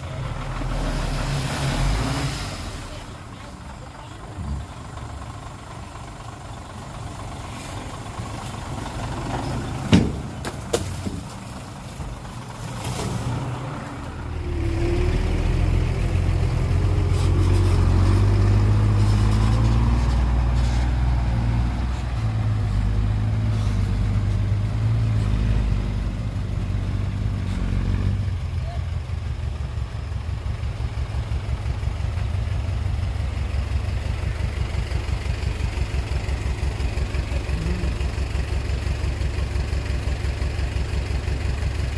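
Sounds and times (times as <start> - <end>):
heavy diesel engine running: 0.0 - 2.0, 2.6 - 41.9.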